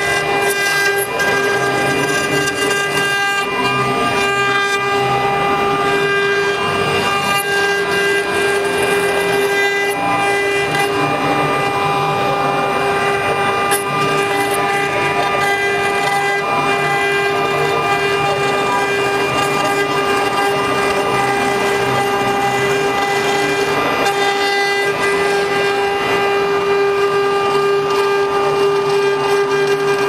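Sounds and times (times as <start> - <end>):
bit cutting wood: 0.0 - 30.0
router spindle whining: 0.0 - 30.0.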